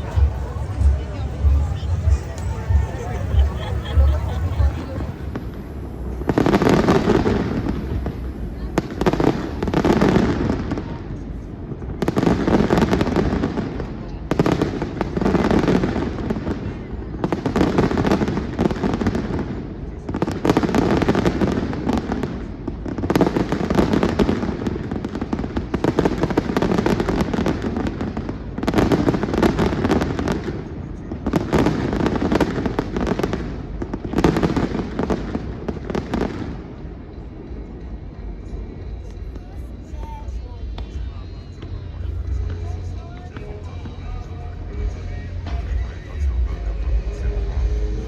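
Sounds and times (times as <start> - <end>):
fireworks bangs and crackle: 0.0 - 48.0.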